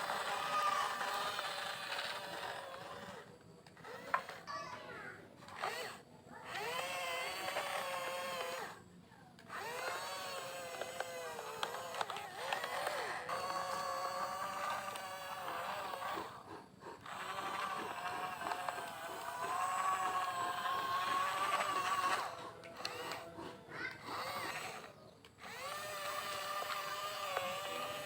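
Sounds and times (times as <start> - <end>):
electric gear motors whining: 0.0 - 28.0.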